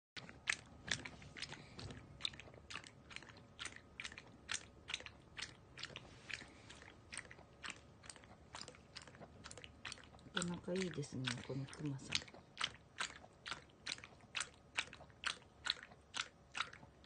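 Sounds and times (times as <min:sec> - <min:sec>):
dog lapping water from metal bowl: 0:00.2 - 0:17.0.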